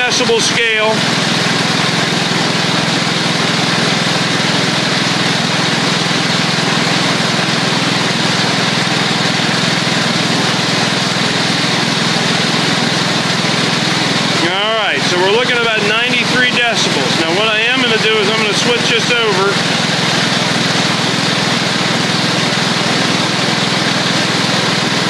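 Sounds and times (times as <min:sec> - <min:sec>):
garden tractor engine running: 0:00.0 - 0:25.0.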